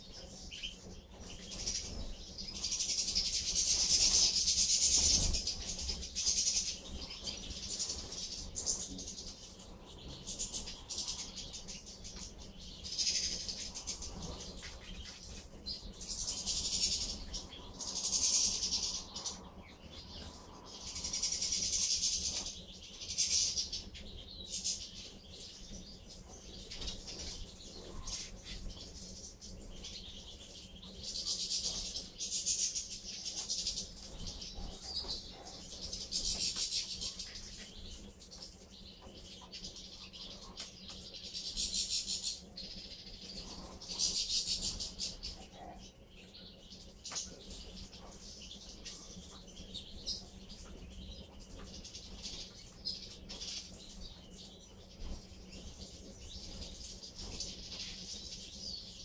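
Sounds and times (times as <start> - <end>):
finches twittering: 0.0 - 59.0.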